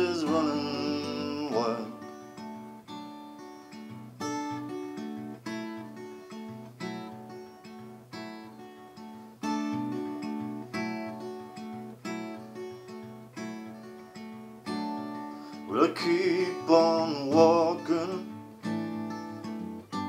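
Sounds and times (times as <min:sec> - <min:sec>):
acoustic guitar picked chords: 0:00.0 - 0:20.0.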